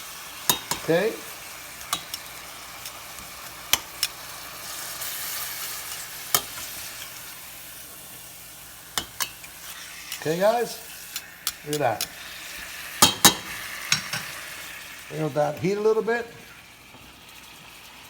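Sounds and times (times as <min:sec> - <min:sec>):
steaks sizzling in a frying pan: 0:00.0 - 0:18.0.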